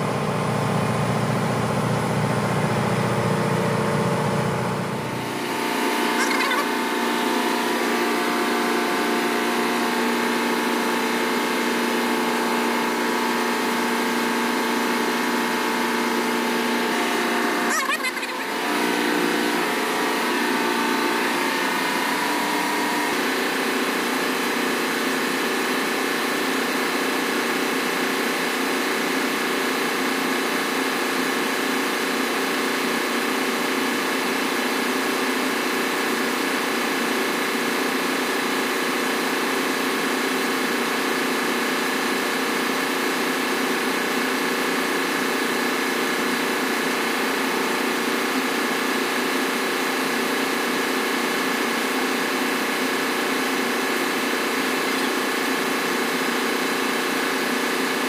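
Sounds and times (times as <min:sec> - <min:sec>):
engine-room machinery humming: 0:00.0 - 0:58.0.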